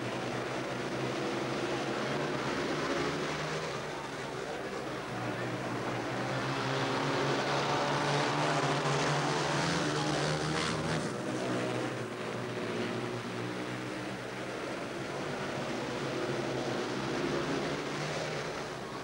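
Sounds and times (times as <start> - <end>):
motorcycles racing: 0.0 - 19.0.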